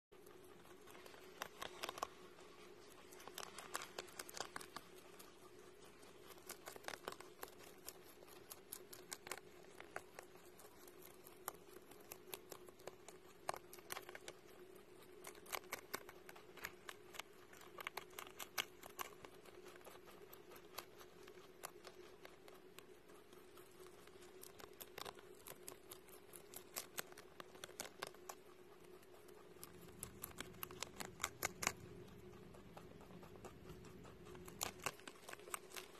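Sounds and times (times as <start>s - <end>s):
faint steady hum: 0.1s - 35.9s
rabbit chewing lettuce: 0.1s - 35.9s.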